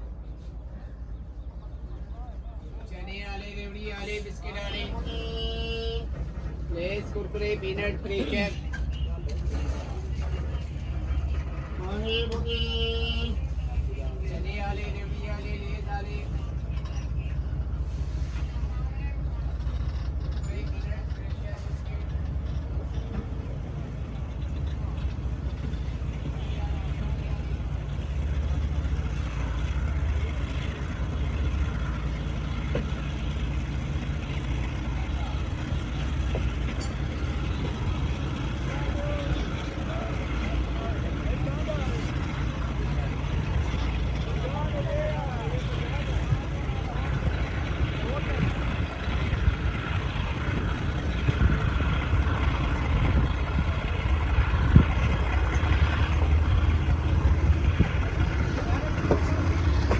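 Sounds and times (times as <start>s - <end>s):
faint voices: 0.0s - 59.9s
passenger train rumbling: 0.0s - 59.9s.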